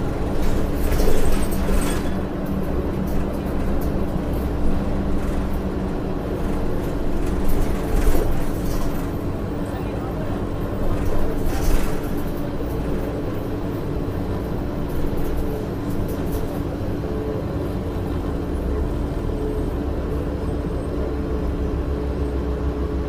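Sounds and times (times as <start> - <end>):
bus engine droning with whine: 0.0 - 23.0.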